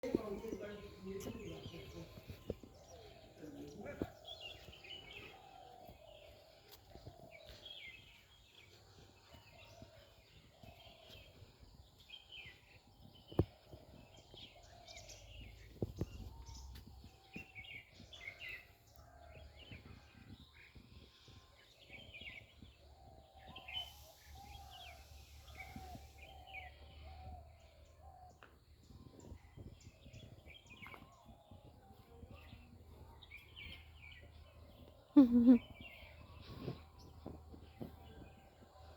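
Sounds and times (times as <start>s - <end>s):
faint outdoor background noise: 0.0s - 38.9s
small birds chirping: 0.0s - 38.9s.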